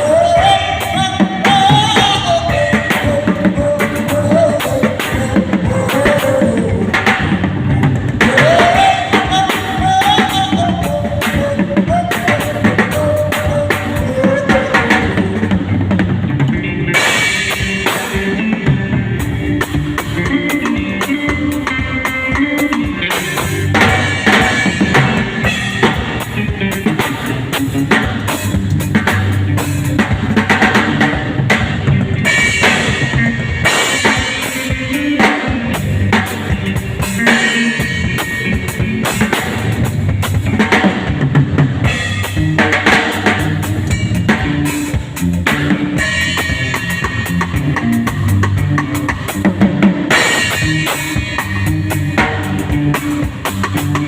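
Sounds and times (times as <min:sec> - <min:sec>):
backing song: 0:00.0 - 0:54.0
drum kit groove: 0:00.0 - 0:54.0.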